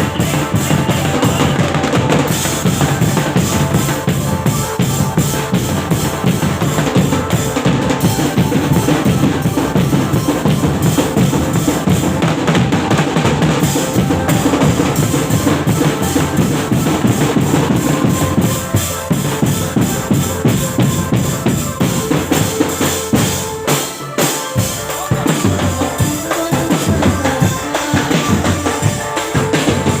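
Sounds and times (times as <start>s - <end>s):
live drum music: 0.0s - 30.0s.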